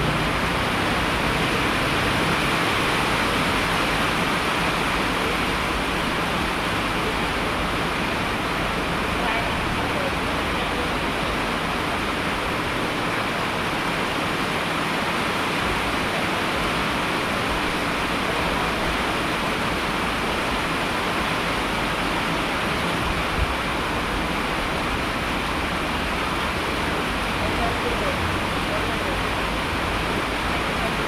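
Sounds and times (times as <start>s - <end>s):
steady dense rain: 0.0s - 31.0s.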